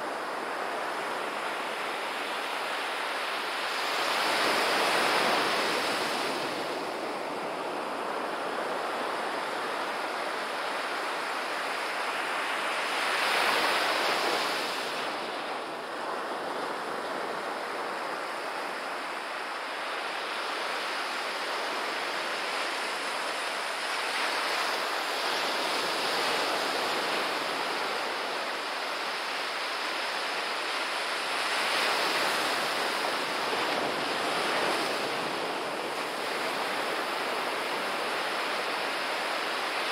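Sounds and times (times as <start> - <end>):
waves breaking on sand beach: 0.0 - 39.9.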